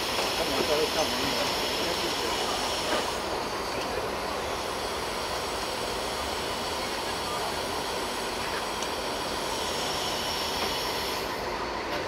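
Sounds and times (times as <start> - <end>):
heavy machinery rumble and hiss: 0.0 - 12.0.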